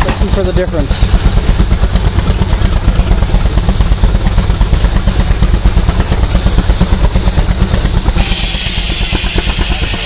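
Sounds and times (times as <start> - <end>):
steam engine exhaust beating: 0.0 - 10.0.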